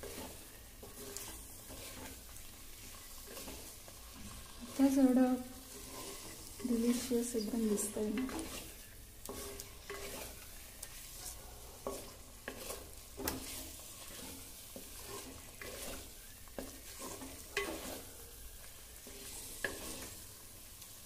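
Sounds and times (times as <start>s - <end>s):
wooden spoon scraping and knocking pot: 0.0s - 20.3s
masala sizzling in oil: 0.0s - 21.0s.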